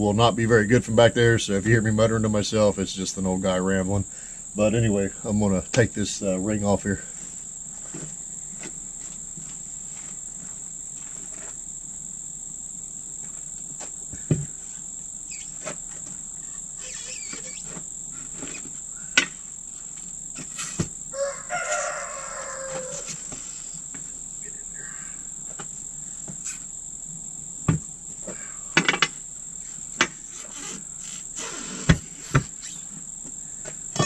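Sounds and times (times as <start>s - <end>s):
insect drone: 0.0s - 34.0s.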